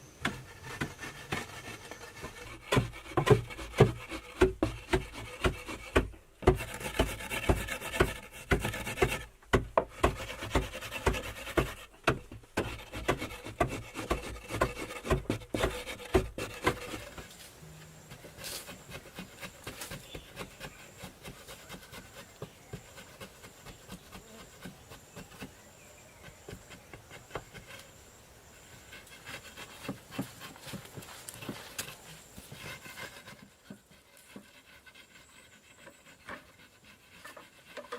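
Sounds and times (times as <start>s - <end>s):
rhythmic scraping strokes by hand: 0.2s - 27.9s, 28.6s - 37.9s
faint scrapes and ticks: 0.2s - 37.9s.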